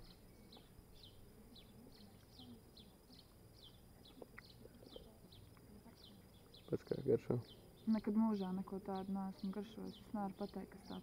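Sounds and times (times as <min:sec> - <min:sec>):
quiet open-air ambience: 0:00.0 - 0:11.0.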